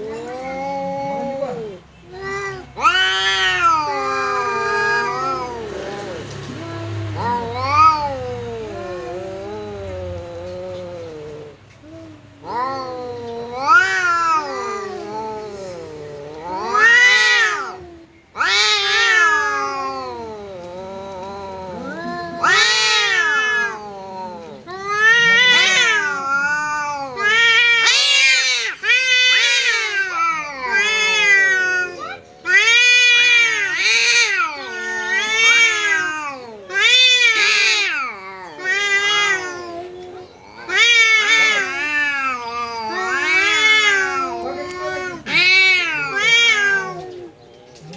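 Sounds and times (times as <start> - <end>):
cats yowling: 0.0 - 47.9.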